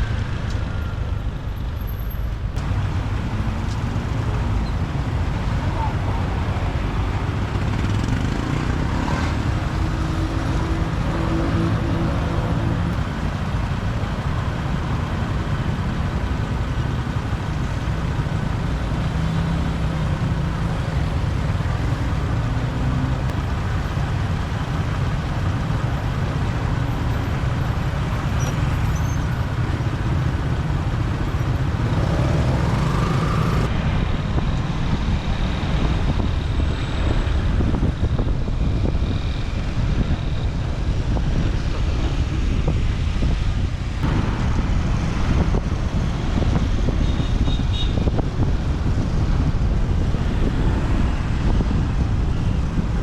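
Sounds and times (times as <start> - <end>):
motorbike engine and road noise: 0.0 - 53.0
other vehicles in traffic: 0.0 - 53.0.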